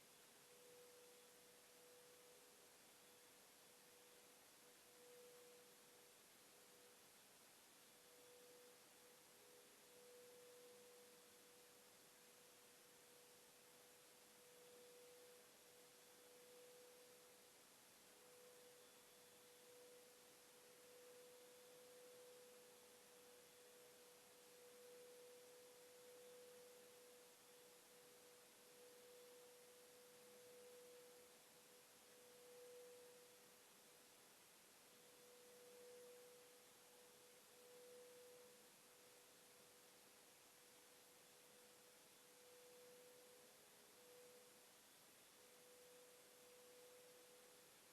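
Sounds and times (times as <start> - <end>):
faint steady pure tone: 0.0 - 47.9
light hiss: 0.0 - 47.9.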